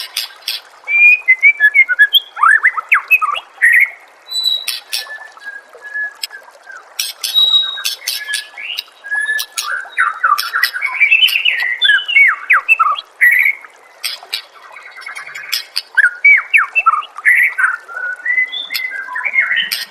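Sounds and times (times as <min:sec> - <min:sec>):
bird singing varied song: 0:00.0 - 0:19.9.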